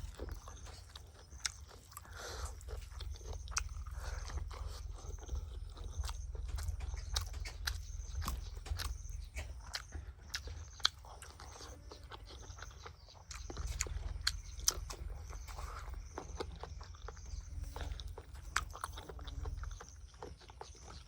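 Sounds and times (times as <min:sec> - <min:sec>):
chewing and crunching: 0:00.0 - 0:21.0.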